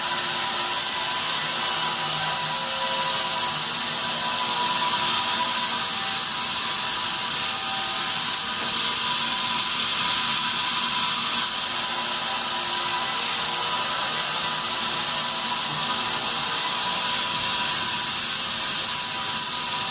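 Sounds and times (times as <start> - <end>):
bandsaw cutting wood: 0.0 - 19.9.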